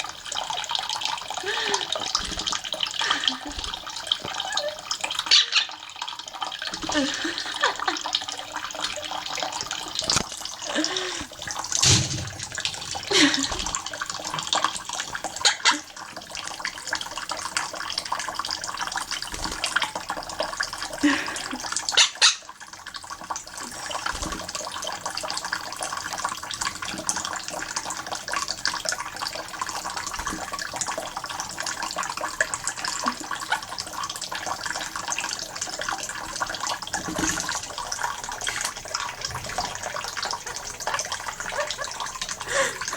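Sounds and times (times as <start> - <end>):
running tap water: 0.0 - 42.9
parrot splashing in water: 0.3 - 42.9.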